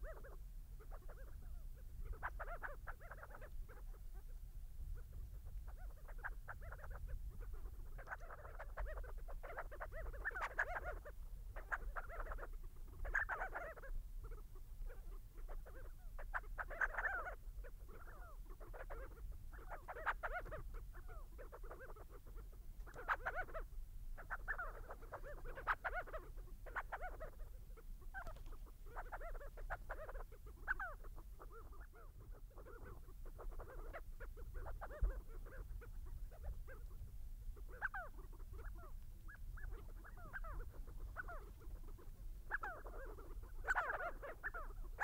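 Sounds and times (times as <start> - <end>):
sandgrouse calling: 0.0 - 45.0.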